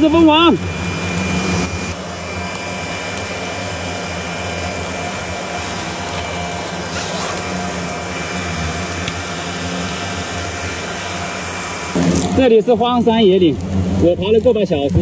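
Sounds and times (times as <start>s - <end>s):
swarm of hornets buzzing: 0.0s - 15.0s.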